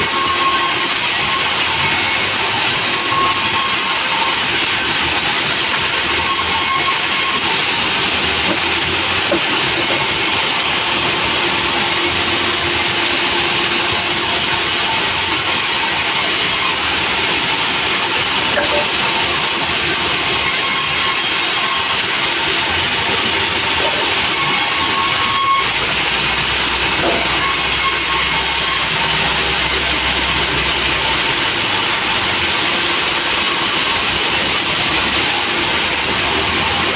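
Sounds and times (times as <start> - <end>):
sawmill machinery running: 0.0 - 36.9.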